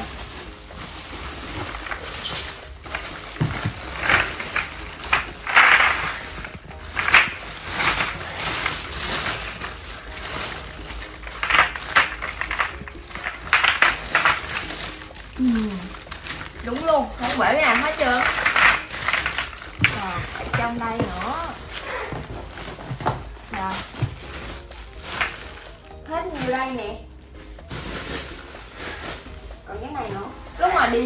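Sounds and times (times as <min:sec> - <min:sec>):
plastic bag crinkling: 0:00.0 - 0:31.0
glass bottles clinking: 0:00.8 - 0:25.8.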